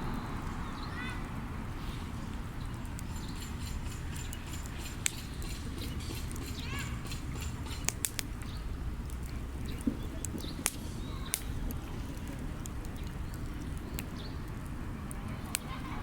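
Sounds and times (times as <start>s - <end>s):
wood fire crackling and popping: 2.7s - 15.8s.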